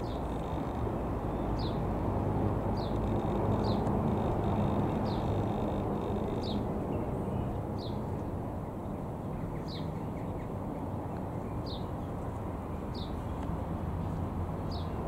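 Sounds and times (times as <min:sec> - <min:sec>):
distant aeroplane engine droning: 0:00.0 - 0:15.0.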